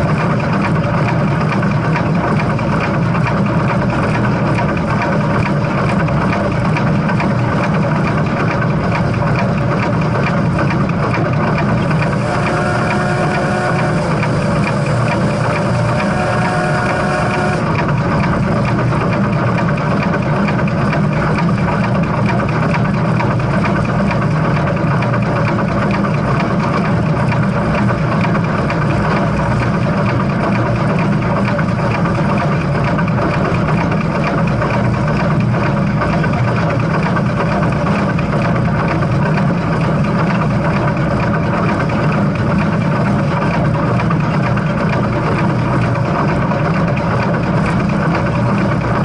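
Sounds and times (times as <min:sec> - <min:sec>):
steam train rumbling: 0:00.0 - 0:49.0.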